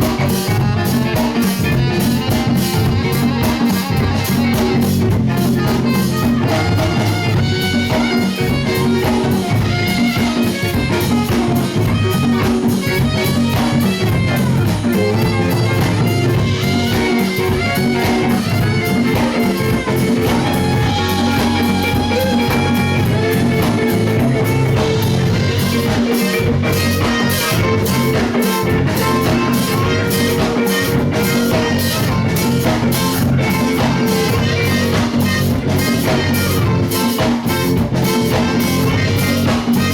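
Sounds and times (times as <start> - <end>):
cymbals beating: 0.0 - 39.9
live band playing: 0.0 - 39.9.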